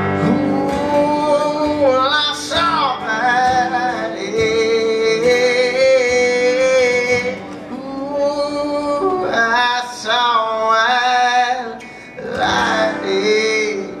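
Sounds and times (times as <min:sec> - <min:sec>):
acoustic guitar: 0:00.0 - 0:14.0
man singing into a microphone: 0:00.0 - 0:14.0.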